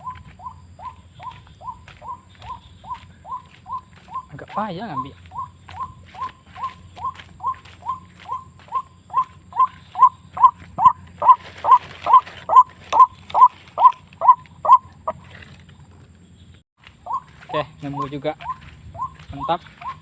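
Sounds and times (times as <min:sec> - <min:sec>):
waterhen calling: 0:00.0 - 0:15.4, 0:17.0 - 0:20.0.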